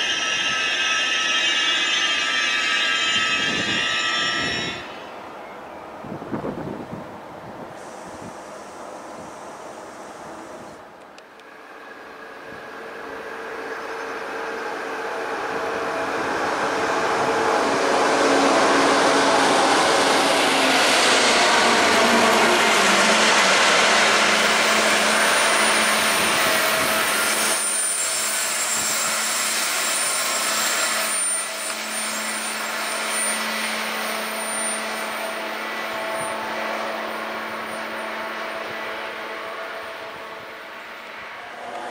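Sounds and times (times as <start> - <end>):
electric train passing: 0.0 - 41.9.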